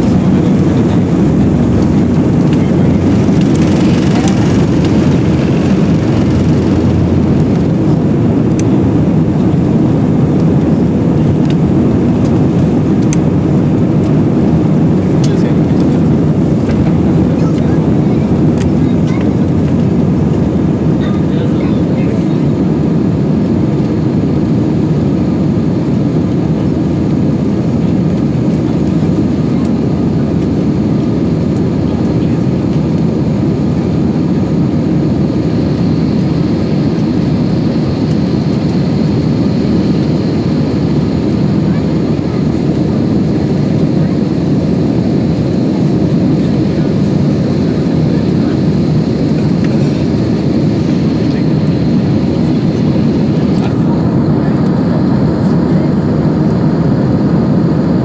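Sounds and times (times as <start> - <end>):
deep rush of engine and airflow: 0.0 - 58.0.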